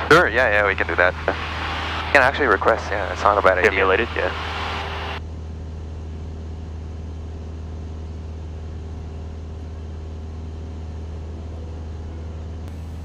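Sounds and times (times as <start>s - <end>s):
aircraft engine droning in cabin: 0.0s - 13.0s.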